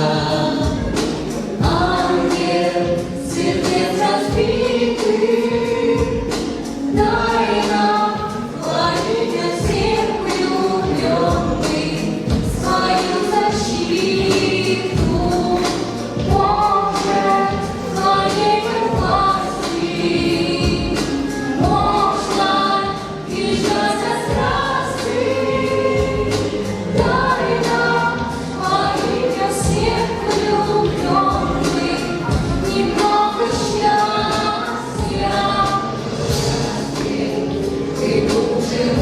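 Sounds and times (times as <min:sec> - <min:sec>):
backing track with steady beat: 0:00.0 - 0:39.0
voices singing together: 0:00.0 - 0:39.0.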